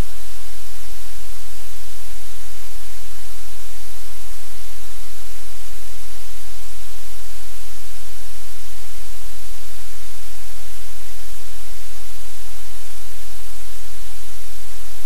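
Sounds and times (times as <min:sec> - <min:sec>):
static hiss: 0:00.0 - 0:15.0.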